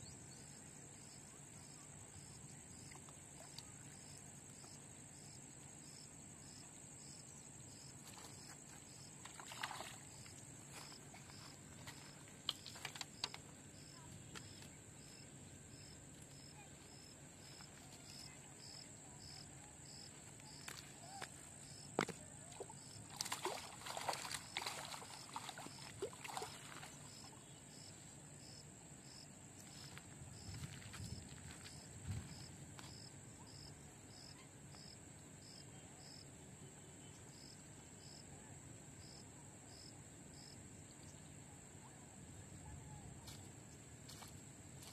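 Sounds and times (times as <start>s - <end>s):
pulsing insect chirp: 0.0s - 36.2s
insects droning: 0.0s - 44.9s.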